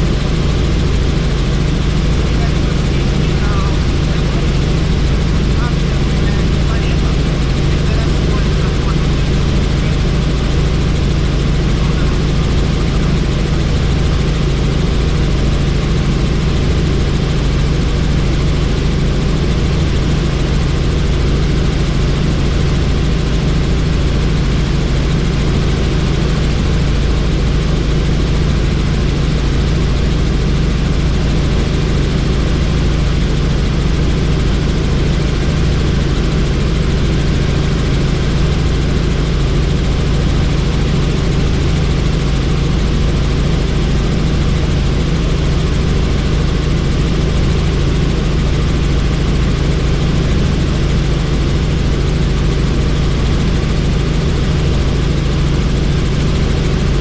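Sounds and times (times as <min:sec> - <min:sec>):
helicopter rotor and engine drone: 0:00.0 - 0:57.0.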